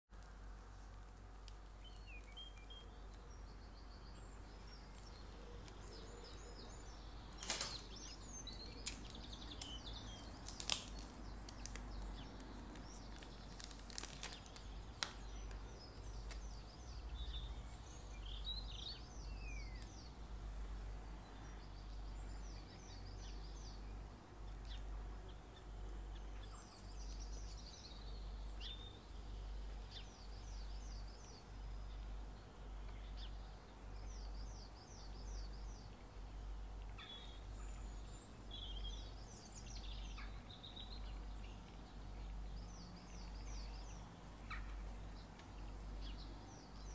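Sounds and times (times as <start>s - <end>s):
low steady hum: 0.1s - 46.9s
birds chirping: 0.6s - 46.9s.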